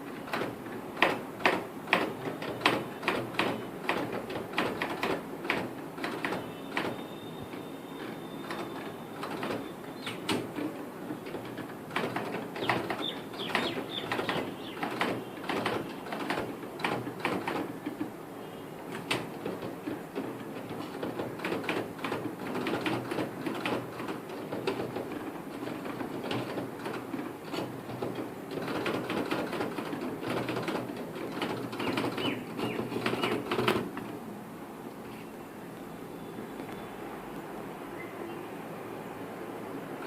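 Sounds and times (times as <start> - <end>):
typewriter keys clicking: 0.3 - 18.1, 18.9 - 34.1.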